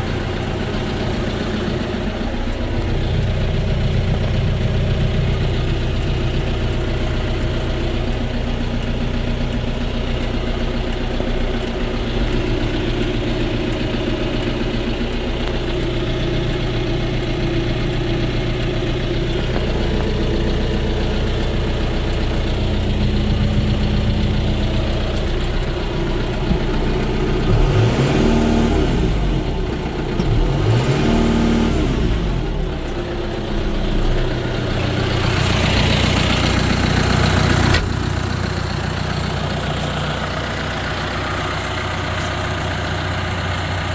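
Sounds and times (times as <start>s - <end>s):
tractor diesel engine idling: 0.0s - 43.9s
tractor engine revving: 0.0s - 43.9s.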